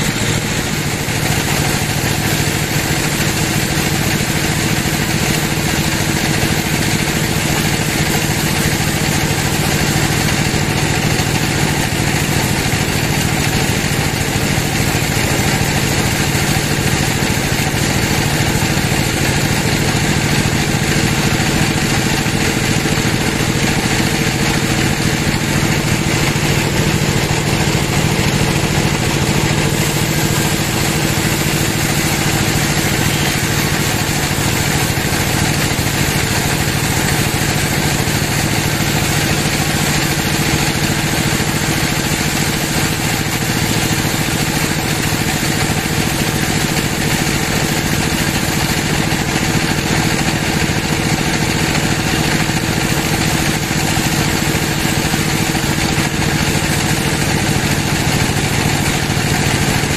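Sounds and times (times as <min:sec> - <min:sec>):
band saw cutting a log: 0:00.0 - 0:59.9.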